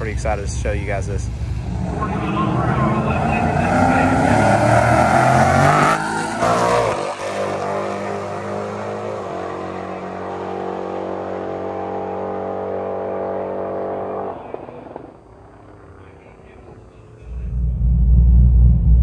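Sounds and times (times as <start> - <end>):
car engines at full throttle: 0.0 - 19.0.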